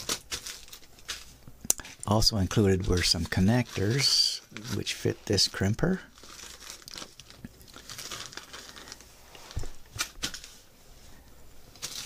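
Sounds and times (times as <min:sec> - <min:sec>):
plastic bag crinkling: 0:00.0 - 0:10.7, 0:11.7 - 0:12.0.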